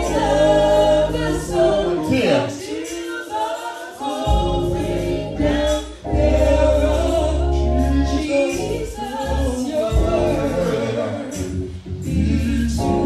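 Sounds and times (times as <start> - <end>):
low held bass notes: 0.0 - 2.1, 4.3 - 13.0
gospel singing: 0.0 - 13.0.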